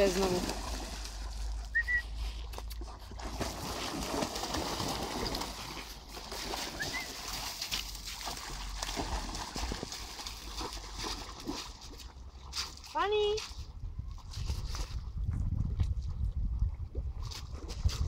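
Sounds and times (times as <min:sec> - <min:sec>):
dogs splashing through water: 0:00.0 - 0:15.2, 0:15.8 - 0:18.0.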